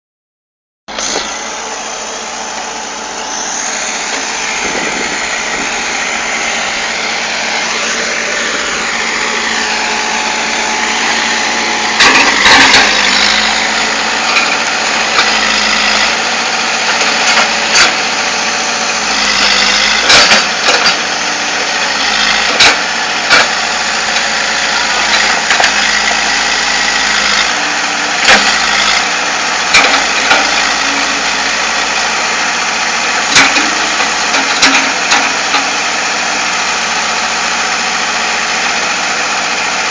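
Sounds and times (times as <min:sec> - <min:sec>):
excavator diesel engine running: 0:00.9 - 0:39.9.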